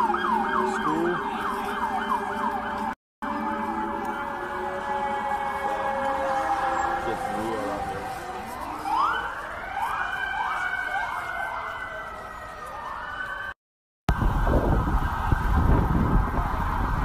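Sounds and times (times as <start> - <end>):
emergency sirens wailing: 0.0 - 17.0.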